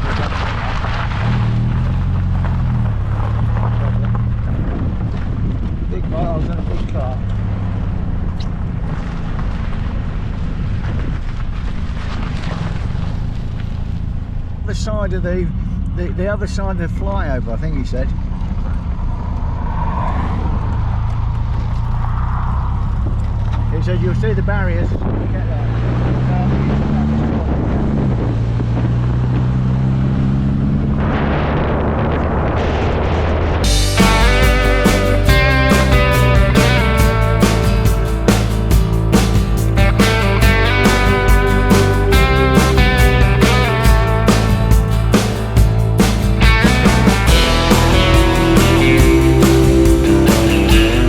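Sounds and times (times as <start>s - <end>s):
wind noise: 0.0s - 14.7s, 18.2s - 51.0s
car engine: 0.0s - 51.0s
road noise: 0.0s - 51.0s.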